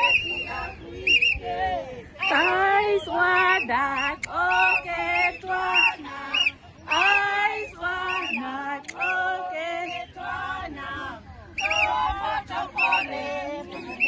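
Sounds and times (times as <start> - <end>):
women singing: 0.0 - 14.0.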